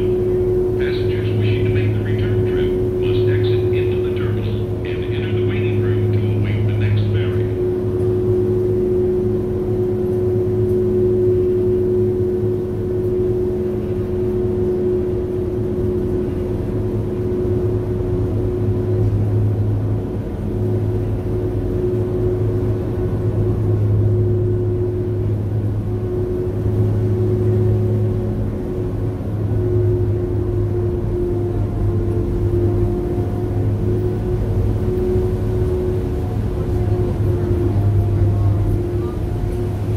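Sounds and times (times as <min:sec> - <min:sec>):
even hum tone: 0:00.0 - 0:39.9
ferry engines droning: 0:00.0 - 0:39.9.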